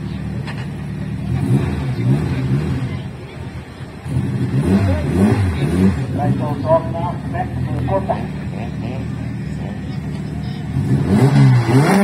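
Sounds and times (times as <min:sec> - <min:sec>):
car engine revving: 0:00.0 - 0:03.2, 0:03.9 - 0:12.0.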